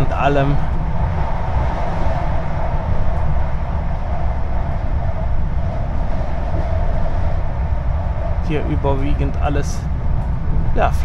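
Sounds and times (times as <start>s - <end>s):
train rumble from inside carriage: 0.0s - 11.0s.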